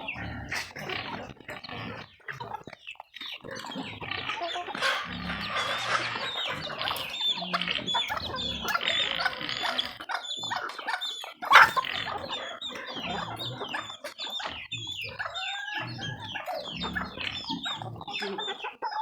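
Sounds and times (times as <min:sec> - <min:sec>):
chickens clucking: 0:00.0 - 0:19.0
chicken squawk: 0:03.3 - 0:19.0.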